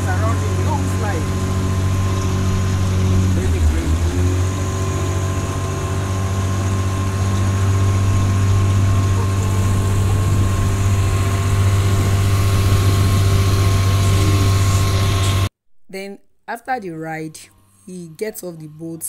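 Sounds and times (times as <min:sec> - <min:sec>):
outboard motor droning: 0:00.0 - 0:15.5, 0:17.3 - 0:19.0
water rushing: 0:00.0 - 0:15.5.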